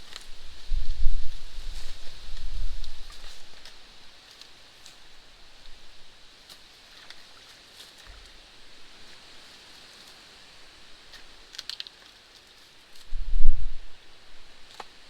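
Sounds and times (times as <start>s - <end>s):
crackles: 0.0s - 15.0s
steady soft hiss: 0.0s - 15.0s.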